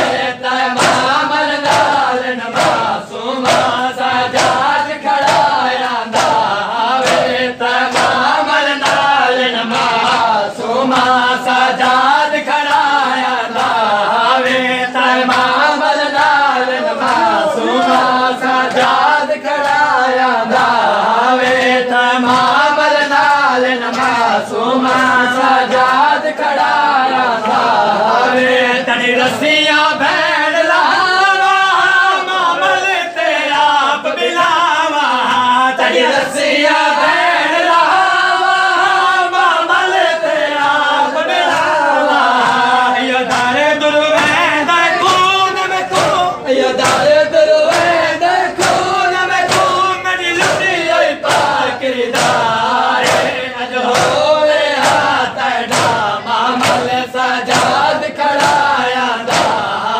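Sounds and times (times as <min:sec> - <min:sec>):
crowd of men chanting a lament: 0:00.0 - 0:59.9
rhythmic chest-beating slaps: 0:00.0 - 0:59.9.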